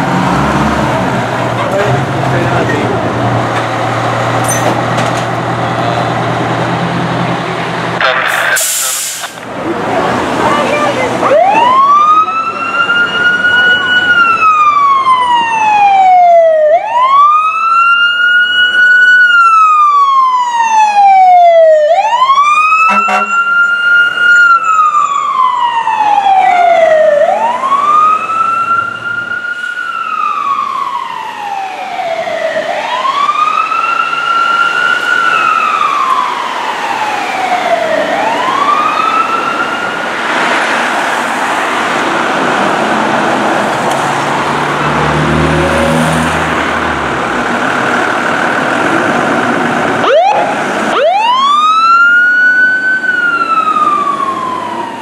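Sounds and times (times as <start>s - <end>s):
fire truck siren wailing: 0.0s - 55.0s.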